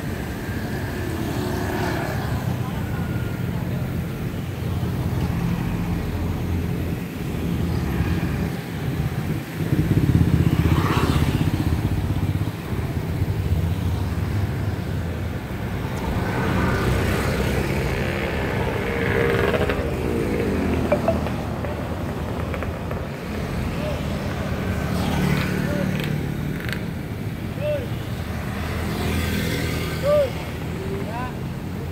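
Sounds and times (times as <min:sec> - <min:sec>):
car engines passing: 0:00.0 - 0:31.9
motorcycles riding past: 0:00.1 - 0:27.0.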